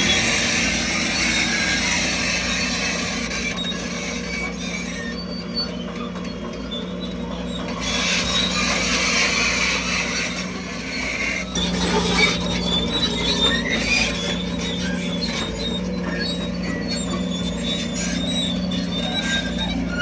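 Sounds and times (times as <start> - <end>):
diesel engine running: 0.0 - 20.0
steel tracks grinding and squealing: 0.0 - 20.0.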